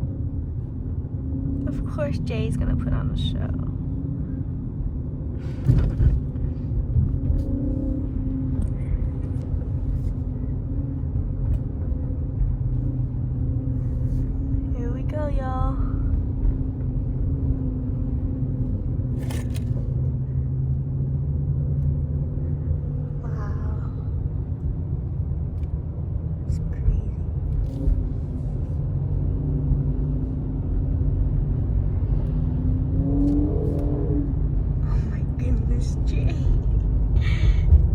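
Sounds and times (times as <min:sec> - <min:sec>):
car engine low rumble: 0:00.0 - 0:37.9.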